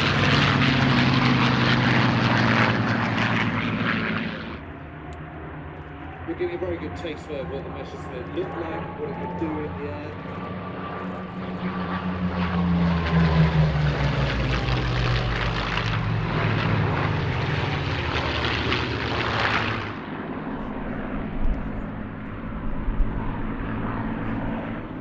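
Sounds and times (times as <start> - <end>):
distant plane engine drone: 0.0 - 25.0
propeller plane flying past: 0.0 - 25.0.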